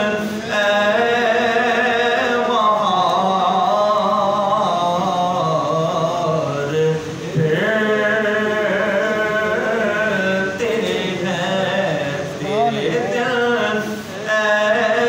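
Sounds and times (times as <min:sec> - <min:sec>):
man singing devotional recitation: 0:00.0 - 0:15.0.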